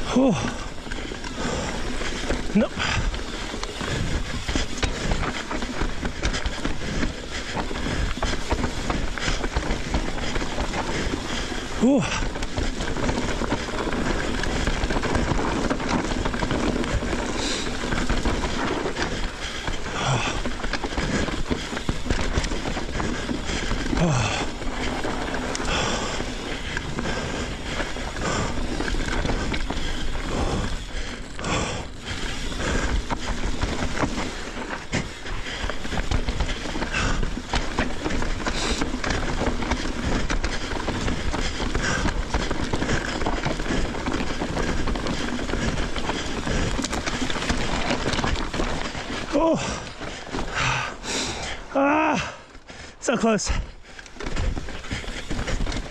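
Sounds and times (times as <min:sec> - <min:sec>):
bike tyre and trail noise: 0:00.0 - 0:55.9
bike knocks and rattles: 0:00.1 - 0:52.7, 0:53.5 - 0:55.9.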